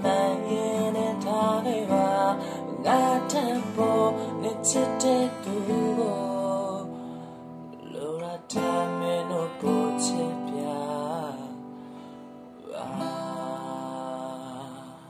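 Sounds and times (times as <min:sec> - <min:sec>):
man singing: 0:00.0 - 0:11.8, 0:12.6 - 0:15.0
acoustic guitar strumming: 0:00.0 - 0:15.0.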